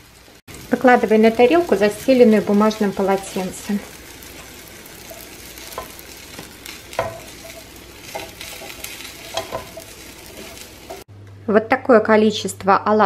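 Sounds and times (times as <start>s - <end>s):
fritters sizzling in oil: 0.0s - 11.1s.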